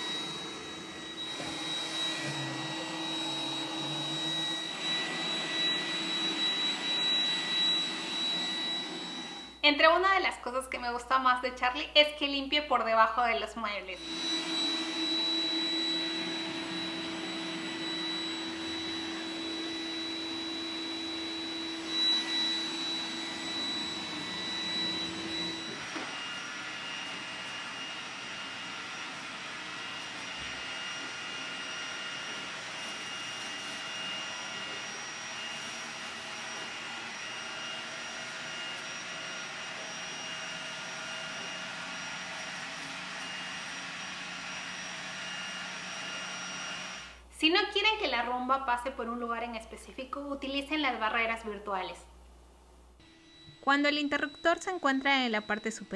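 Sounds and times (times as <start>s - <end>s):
robot vacuum motor whine: 0.0s - 9.6s, 13.9s - 47.2s, 53.0s - 55.9s.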